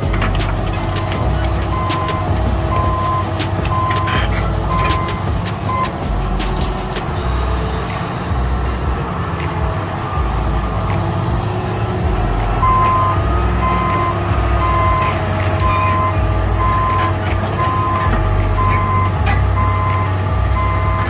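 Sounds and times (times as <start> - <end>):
backup alarm beeping: 0.0 - 21.0
heavy diesel engine running: 0.0 - 21.0.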